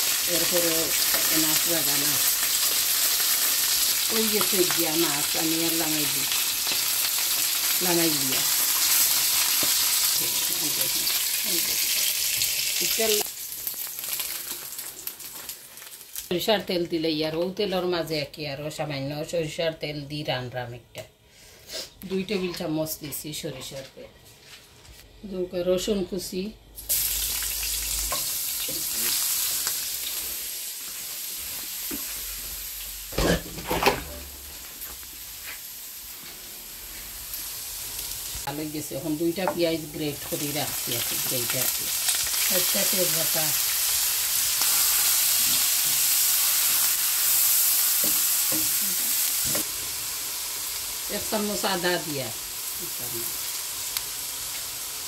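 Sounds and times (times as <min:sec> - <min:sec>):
food sizzling in oil in a frying pan: 0:00.0 - 0:16.3, 0:26.8 - 0:55.0.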